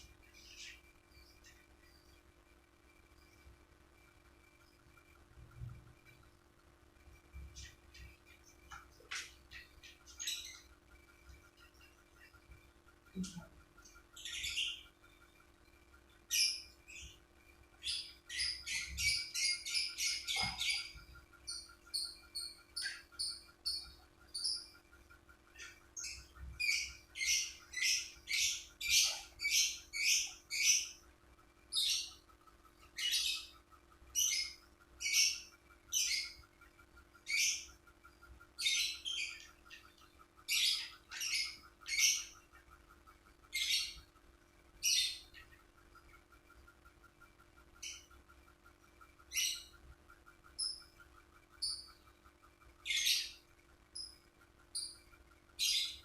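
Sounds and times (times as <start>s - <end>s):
faint steady hum: 0.0s - 56.0s
lovebird chirping: 7.2s - 15.4s, 16.0s - 31.1s, 31.7s - 44.2s, 44.8s - 56.0s.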